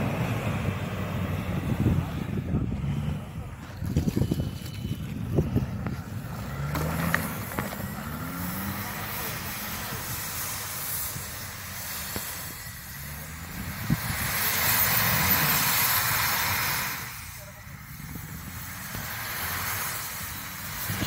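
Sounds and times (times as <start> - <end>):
snow spraying off tyres: 0.0 - 21.0
suv engine revving: 0.0 - 21.0.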